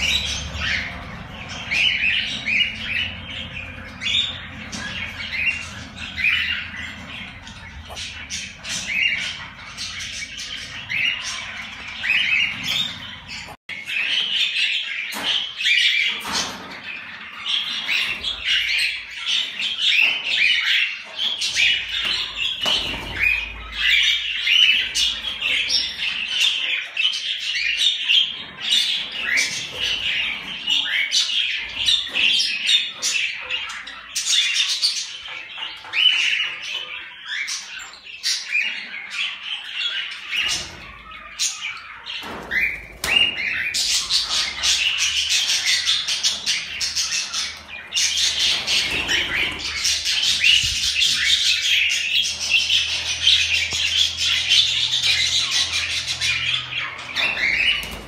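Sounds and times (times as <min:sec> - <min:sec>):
cockatiels squawking: 0:00.0 - 0:58.0.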